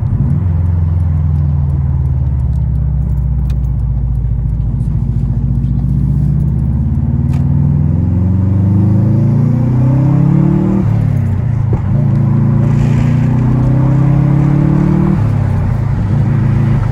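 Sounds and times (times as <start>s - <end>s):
car engine accelerating: 0.0s - 16.9s.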